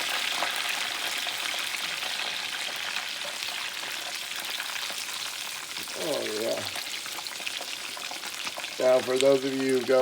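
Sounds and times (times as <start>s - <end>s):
chicken frying in hot oil: 0.0s - 10.0s.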